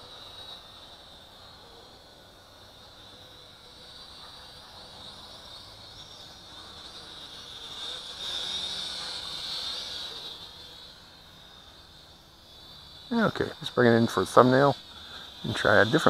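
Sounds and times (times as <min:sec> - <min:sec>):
crickets chirping: 0:00.0 - 0:16.0
toy drone propellers whirring: 0:00.0 - 0:16.0.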